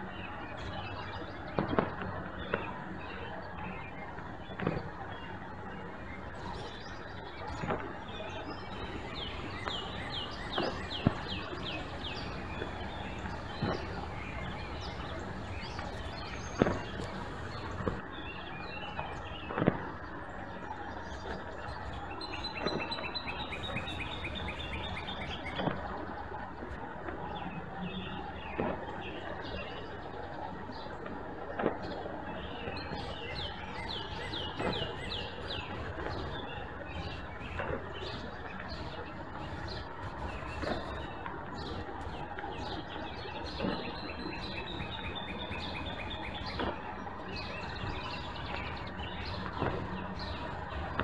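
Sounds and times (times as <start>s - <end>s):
steady outdoor hiss: 0.0s - 51.0s.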